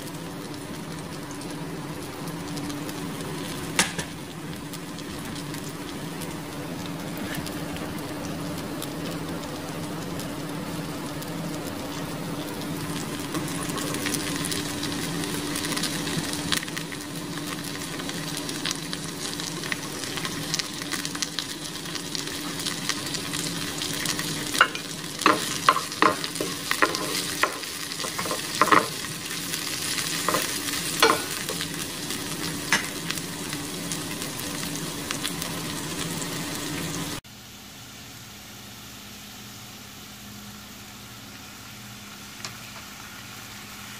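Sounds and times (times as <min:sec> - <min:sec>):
food sizzling in oil: 0:00.0 - 0:43.9.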